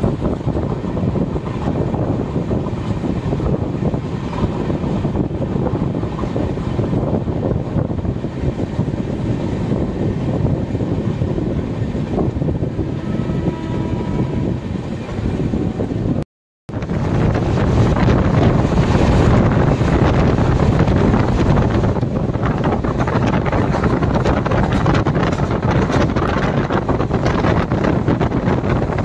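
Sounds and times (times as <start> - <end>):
train running rumble: 0.0 - 29.0
wind buffeting microphone: 0.0 - 29.0.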